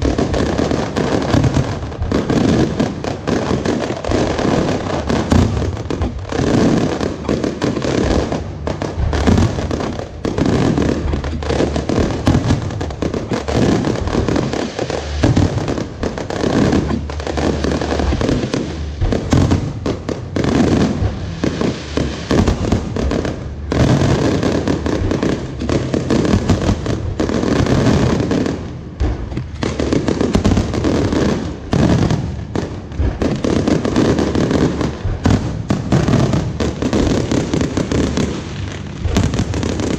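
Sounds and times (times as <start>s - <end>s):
fireworks booms and crackles: 0.0s - 39.9s.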